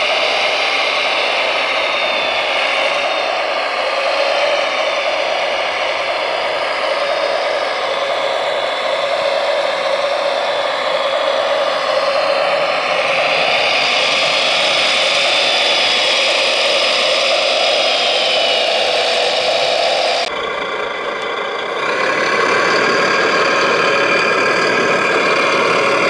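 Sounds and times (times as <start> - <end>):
model loader motor whir: 0.0 - 26.0.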